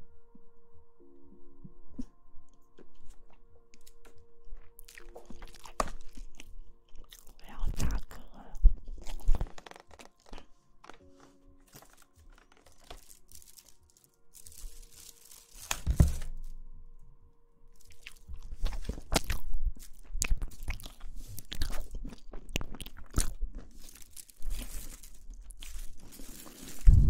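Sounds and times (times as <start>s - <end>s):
close crunching and crackles: 2.0s - 16.6s, 17.7s - 27.0s.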